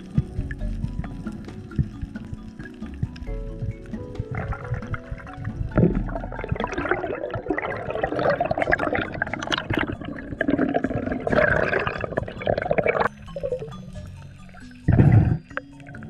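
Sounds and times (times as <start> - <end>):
underwater rushing and bubbling: 0.0 - 16.0.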